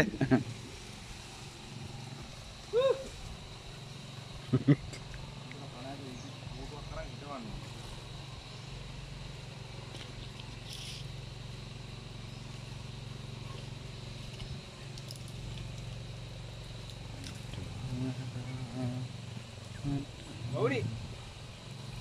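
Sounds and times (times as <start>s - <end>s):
faint high whine: 0.0s - 22.0s
low mechanical hum: 0.0s - 22.0s.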